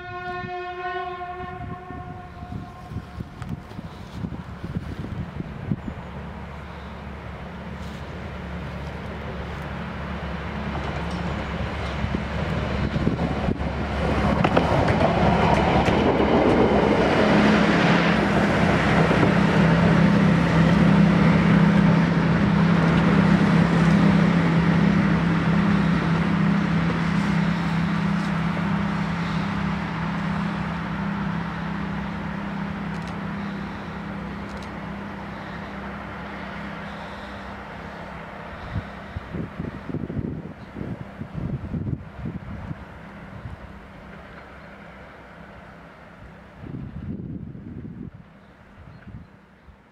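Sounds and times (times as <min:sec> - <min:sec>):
diesel locomotive engine drone: 0:00.0 - 0:49.9.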